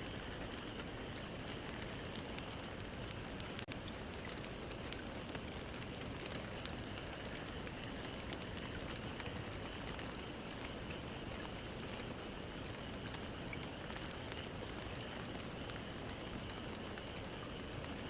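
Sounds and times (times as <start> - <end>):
faint ticks: 0.0 - 18.0
steady background hiss: 0.0 - 18.0.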